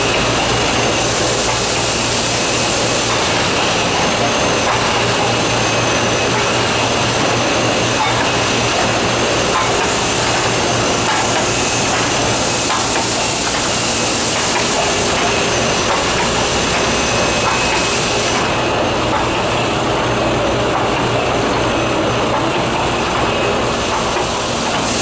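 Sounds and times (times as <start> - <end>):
printing press mechanical din: 0.0 - 25.0.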